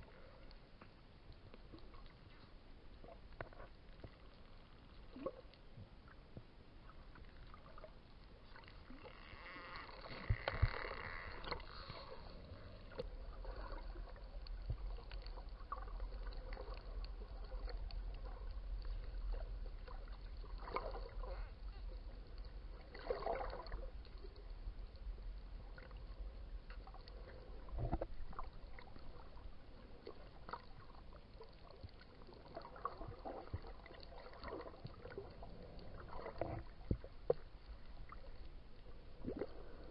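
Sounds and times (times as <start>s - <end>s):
underwater water noise: 0.0s - 39.9s.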